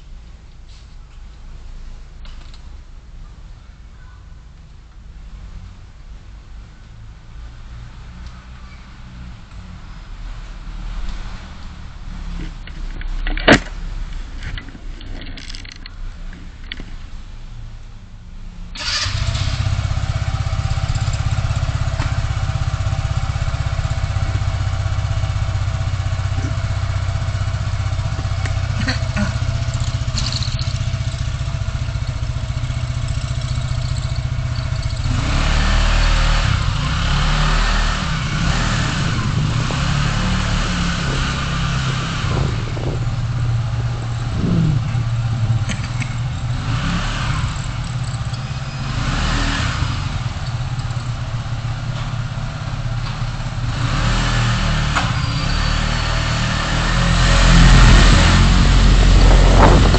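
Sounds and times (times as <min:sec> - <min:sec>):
car engine and road rumble: 0:00.0 - 0:59.9
vehicles passing: 0:00.0 - 0:59.9.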